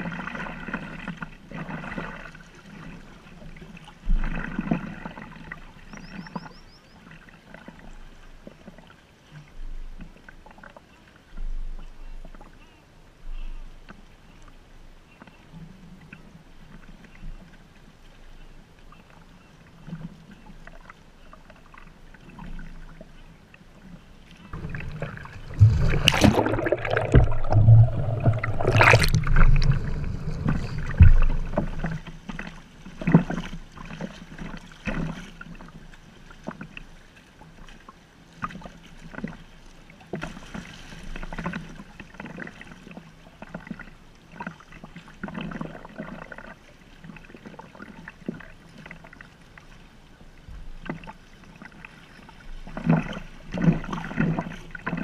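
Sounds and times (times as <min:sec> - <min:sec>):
paddle strokes and drips: 0:00.0 - 0:55.0
water lapping against hull: 0:00.0 - 0:55.0.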